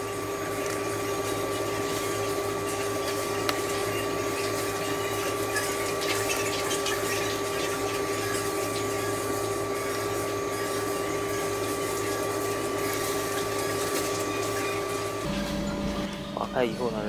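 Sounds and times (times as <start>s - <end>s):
small electric motor humming: 0.0s - 17.0s.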